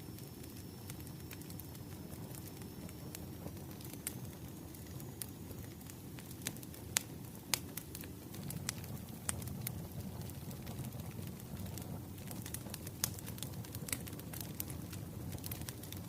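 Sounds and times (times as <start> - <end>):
low rumble of burning logs: 0.0 - 16.0
wood fire pops and snaps: 0.3 - 16.0.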